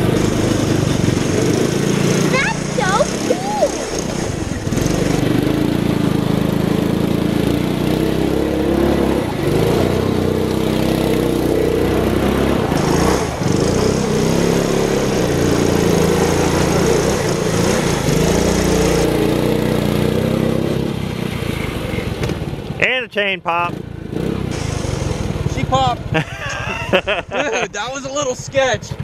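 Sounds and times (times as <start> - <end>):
small gas engine revving: 0.0 - 22.5, 23.7 - 27.6.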